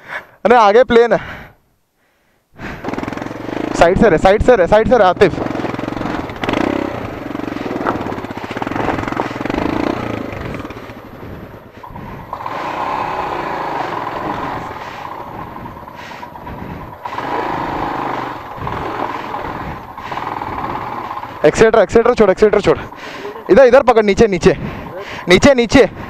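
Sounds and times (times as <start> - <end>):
motorcycle engine running: 2.6 - 26.0.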